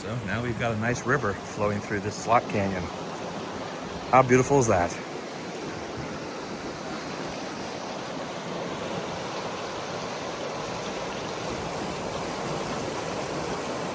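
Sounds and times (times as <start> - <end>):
river rushing over rapids: 0.0 - 13.9.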